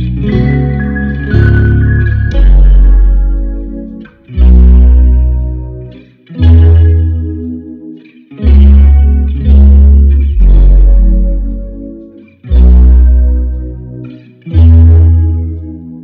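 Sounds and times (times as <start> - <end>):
deep bass notes: 0.0 - 7.6, 8.4 - 14.0, 14.6 - 15.7
guitar chords with effects: 0.0 - 16.0.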